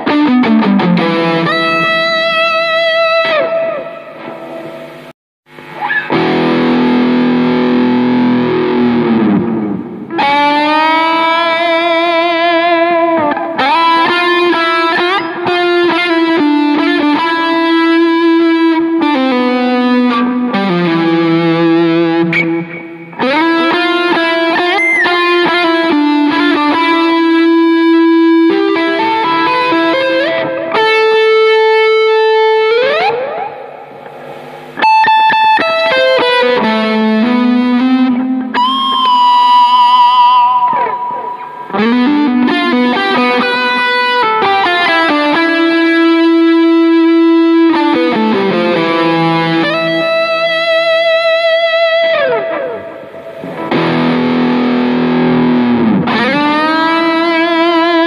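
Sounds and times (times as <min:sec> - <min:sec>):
electric guitar lead melody: 0:00.0 - 0:58.0.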